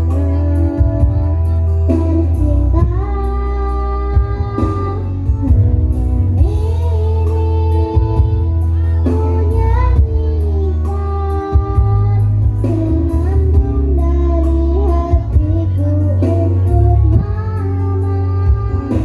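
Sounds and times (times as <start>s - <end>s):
instrumental accompaniment with bass: 0.0s - 19.0s
person singing: 0.0s - 19.0s.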